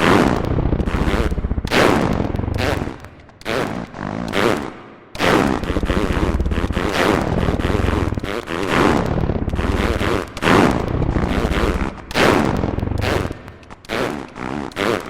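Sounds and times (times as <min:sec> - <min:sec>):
fart sounds playing a melody: 0:00.0 - 0:15.0.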